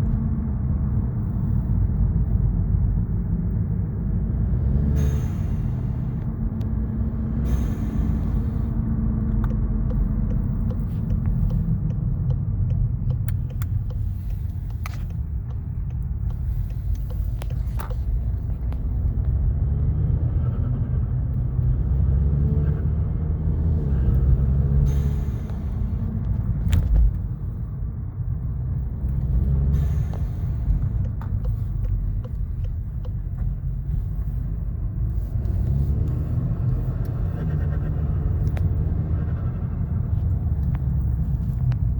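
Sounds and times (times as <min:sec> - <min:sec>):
car engine running while driving: 0:00.0 - 0:41.9.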